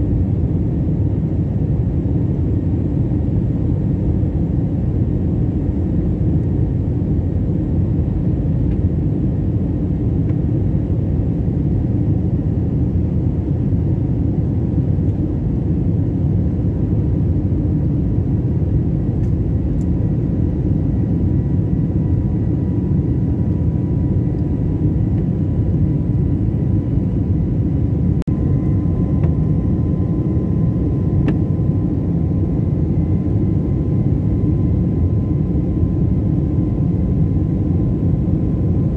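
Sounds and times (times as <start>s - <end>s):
faint steady whine: 0.0s - 38.9s
jet engine and airflow rumble: 0.0s - 38.9s.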